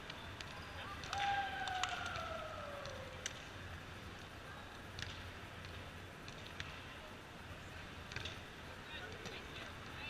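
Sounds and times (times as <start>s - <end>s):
quiet sports hall ambience: 0.0s - 10.0s.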